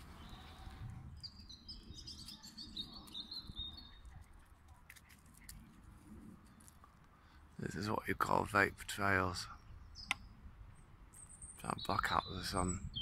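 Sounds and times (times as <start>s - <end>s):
faint low outdoor rumble: 0.0s - 11.6s
small birds chirping: 0.0s - 13.0s.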